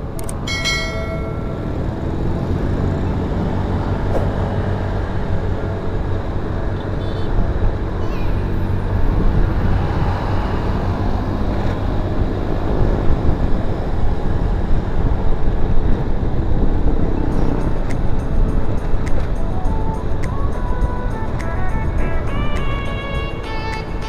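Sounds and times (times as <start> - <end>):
tyre noise on road: 0.0 - 21.1
wind buffeting microphone: 1.8 - 24.0.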